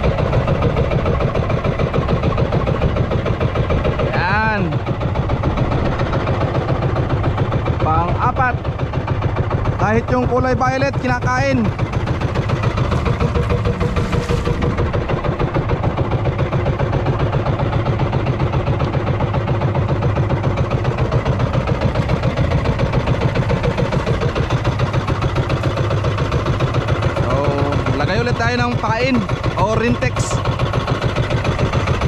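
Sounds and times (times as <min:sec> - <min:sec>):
small boat engine running: 0:00.0 - 0:32.0.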